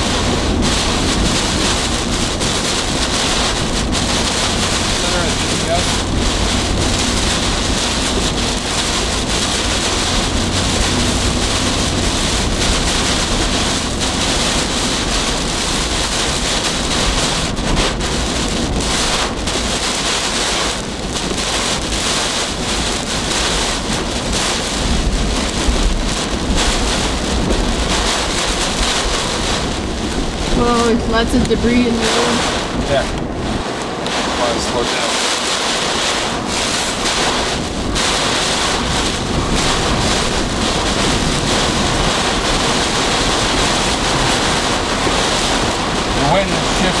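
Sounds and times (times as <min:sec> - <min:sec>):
heavy rain pelting car: 0:00.0 - 0:47.0
wind buffeting vehicle: 0:00.0 - 0:47.0.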